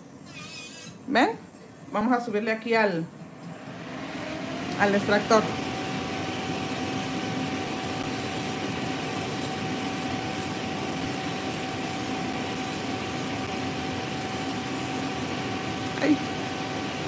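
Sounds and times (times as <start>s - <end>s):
extractor fan whirring: 1.1s - 17.0s.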